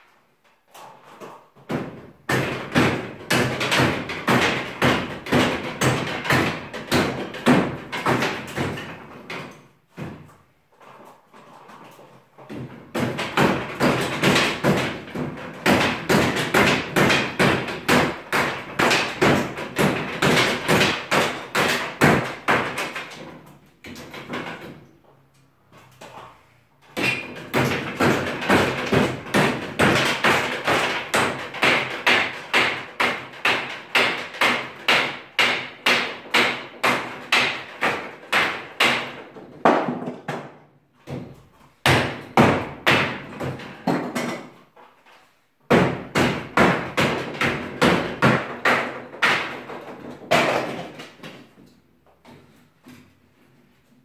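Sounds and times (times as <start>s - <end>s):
metal bar knocking wooden ceiling: 0.7s - 24.9s, 26.9s - 44.6s, 45.7s - 51.6s.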